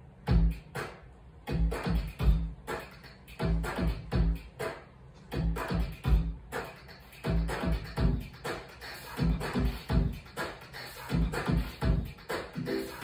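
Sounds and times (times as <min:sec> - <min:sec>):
hip-hop beat with kick and bass: 0:00.0 - 0:13.0.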